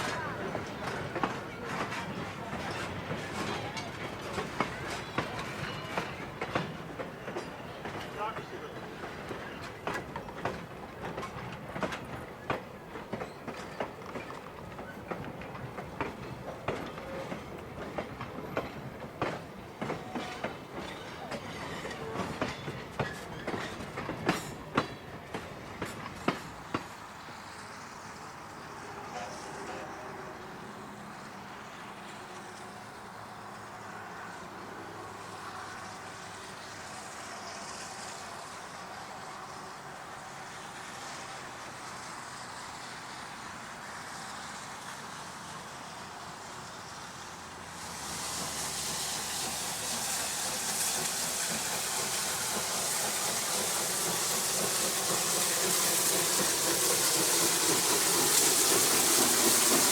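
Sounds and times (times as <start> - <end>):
train wheels clicking over rail joints: 0.0 - 30.0, 35.1 - 59.9.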